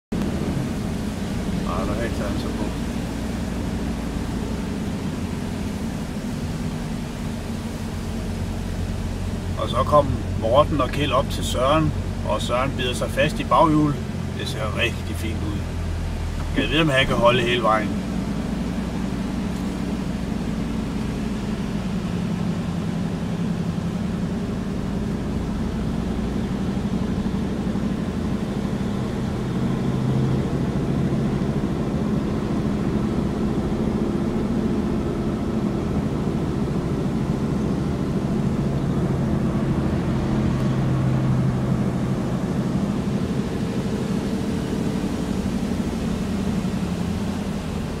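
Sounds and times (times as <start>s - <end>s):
road noise: 0.1s - 48.0s
vehicle engine running at low speed: 0.1s - 48.0s.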